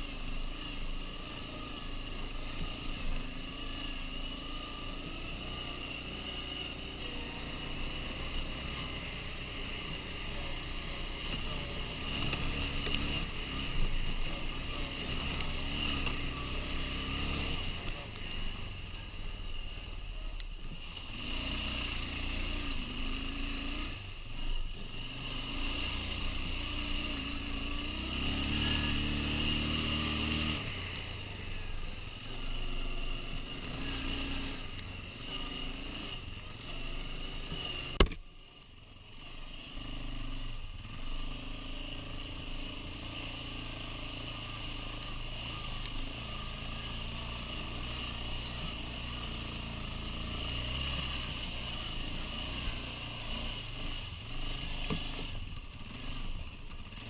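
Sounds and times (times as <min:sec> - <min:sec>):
quad bike engine revving: 0:00.0 - 0:19.4, 0:20.2 - 0:38.2, 0:39.1 - 0:57.0.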